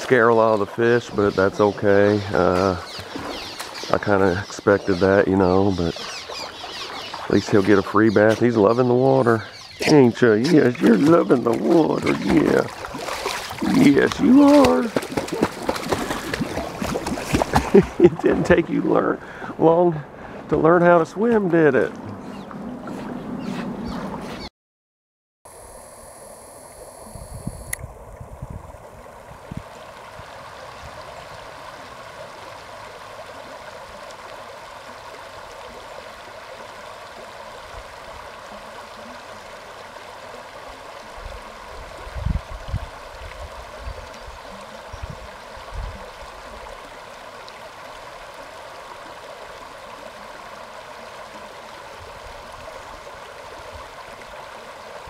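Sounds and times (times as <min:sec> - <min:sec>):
creek water running over rocks: 0:00.0 - 0:23.2, 0:27.8 - 0:55.0.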